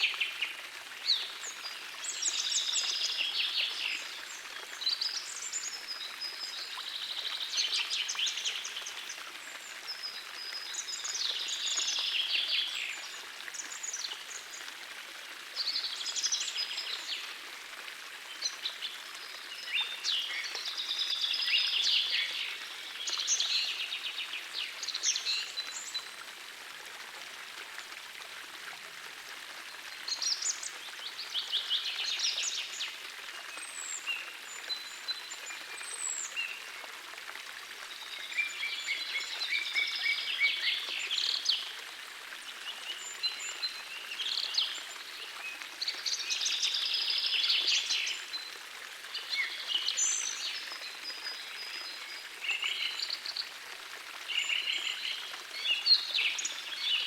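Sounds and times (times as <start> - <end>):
gentle stream rushing: 0.0 - 57.0.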